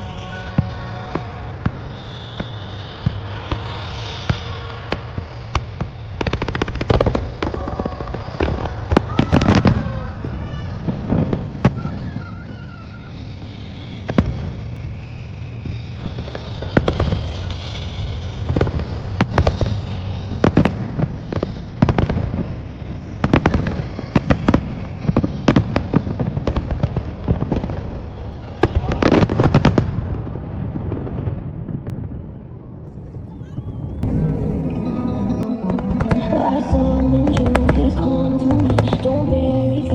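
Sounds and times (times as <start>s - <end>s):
fireworks shells bursting: 0.0s - 29.8s, 34.0s - 39.9s.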